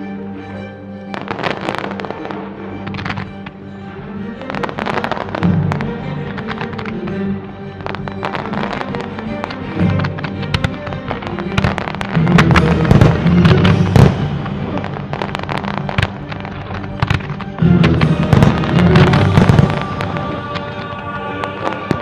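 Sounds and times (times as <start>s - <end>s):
music: 0.0s - 22.0s
fireworks bangs: 1.1s - 3.5s, 4.4s - 7.2s, 7.8s - 22.0s.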